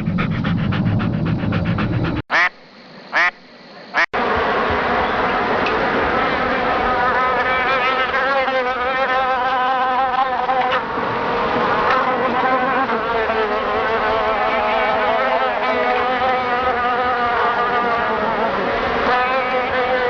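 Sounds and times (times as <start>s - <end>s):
flies buzzing: 2.4s - 10.9s, 11.8s - 20.0s.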